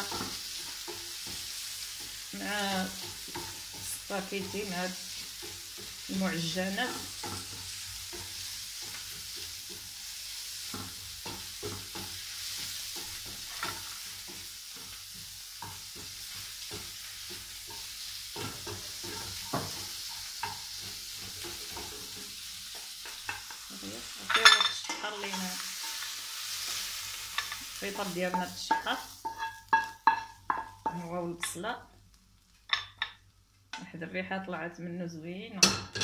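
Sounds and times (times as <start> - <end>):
mushrooms and onion sizzling: 0.0 - 36.0.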